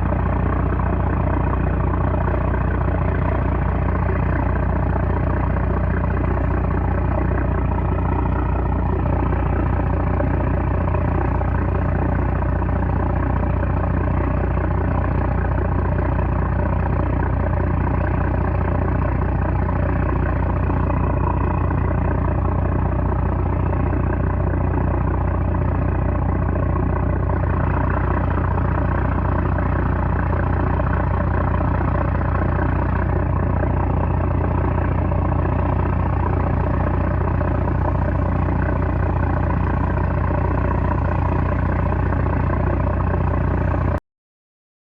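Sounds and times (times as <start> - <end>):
diesel engine droning: 0.0 - 44.0.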